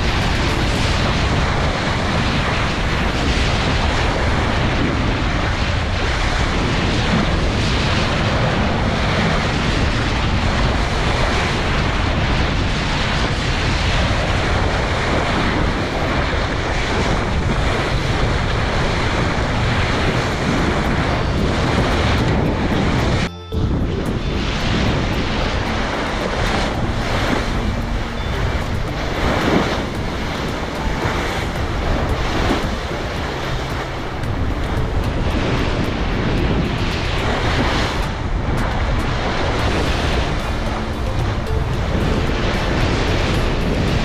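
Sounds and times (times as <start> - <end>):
water rushing along ship hull: 0.0 - 44.0
wind buffeting microphone: 0.0 - 44.0.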